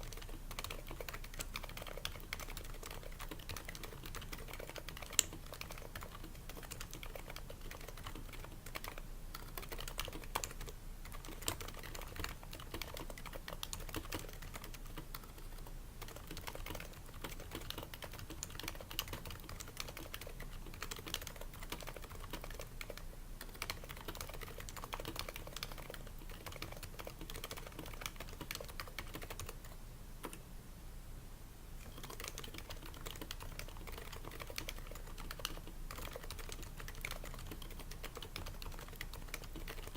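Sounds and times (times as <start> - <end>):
keyboard typing: 0.0 - 30.4, 31.8 - 39.9.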